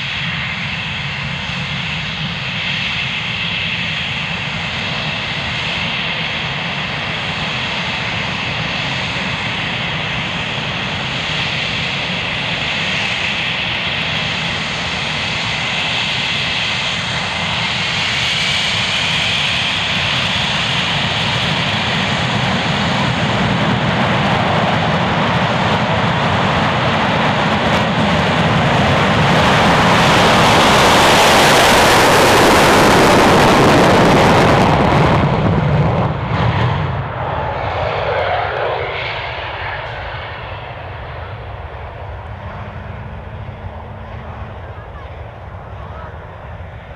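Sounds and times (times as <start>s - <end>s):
jet engine roar: 0.0s - 46.9s
jet engines whining: 0.0s - 46.9s.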